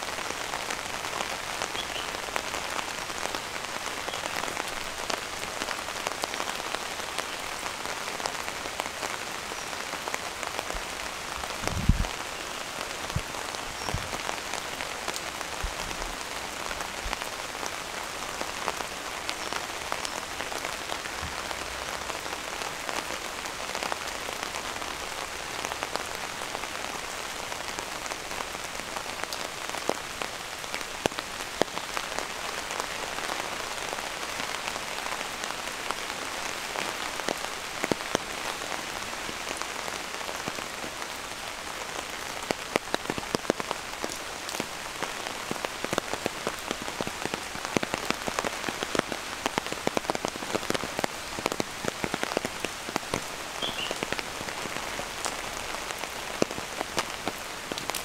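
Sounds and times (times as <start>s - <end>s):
sharp raindrops striking: 0.0s - 58.0s
steady rain falling: 0.0s - 58.0s.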